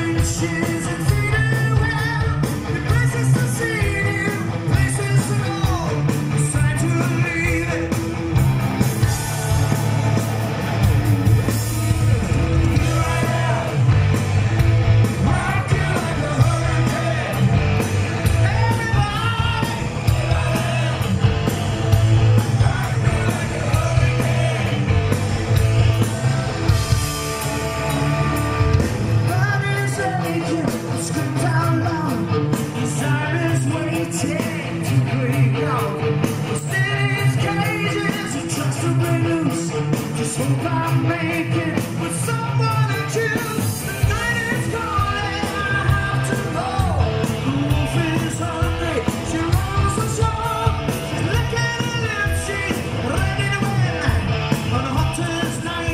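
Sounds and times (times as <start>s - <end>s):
man singing: 0.0s - 8.1s, 11.6s - 14.1s, 15.0s - 25.2s, 29.2s - 55.9s
bass: 0.0s - 55.9s
distorted electric guitars: 0.0s - 55.9s
driving drum beat: 0.0s - 55.9s.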